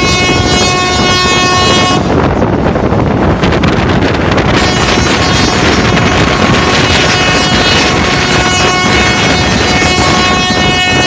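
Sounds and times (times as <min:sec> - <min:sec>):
train wheels roaring on rails: 0:00.0 - 0:11.0.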